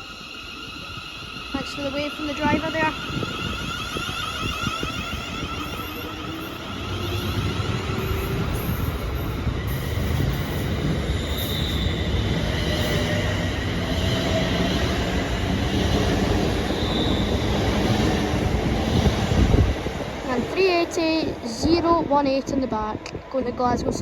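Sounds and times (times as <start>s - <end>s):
train wheels rumbling on rails: 0.0s - 24.0s
wheels squealing: 0.1s - 20.0s.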